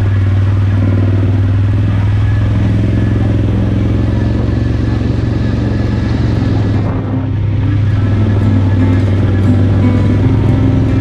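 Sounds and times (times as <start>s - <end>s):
atv engine running under load: 0.0s - 11.0s.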